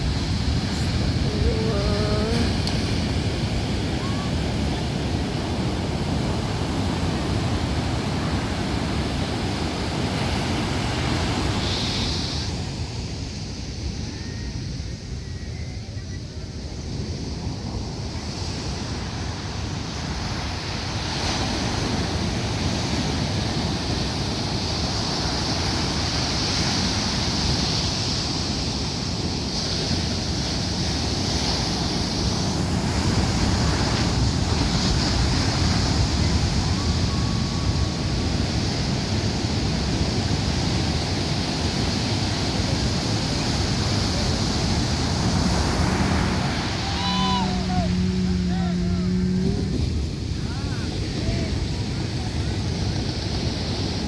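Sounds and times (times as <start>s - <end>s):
ocean waves breaking: 0.0s - 14.0s, 16.9s - 54.0s
wind on microphone: 0.0s - 54.0s.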